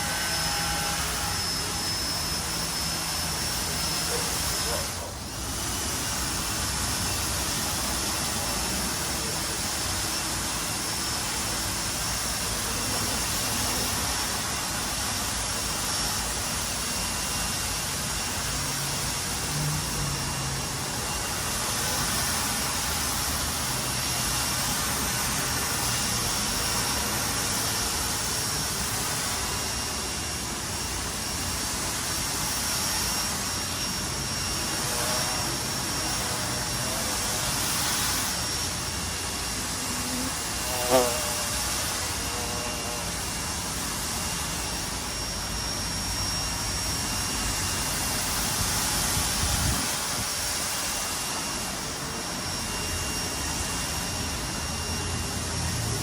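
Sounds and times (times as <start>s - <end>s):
pressure washer spraying: 0.0s - 52.4s.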